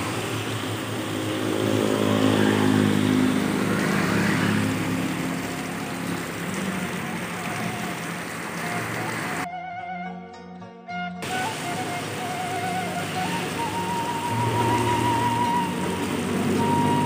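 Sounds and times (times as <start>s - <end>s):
rain hissing: 0.0s - 9.5s, 11.2s - 17.0s
vehicle passing on wet road: 0.0s - 9.5s, 11.2s - 17.0s.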